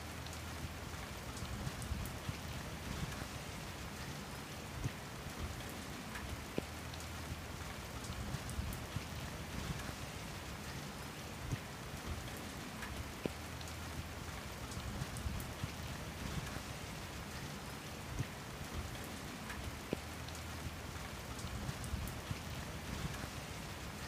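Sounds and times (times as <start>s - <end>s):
rain on wet paving: 0.0s - 24.0s.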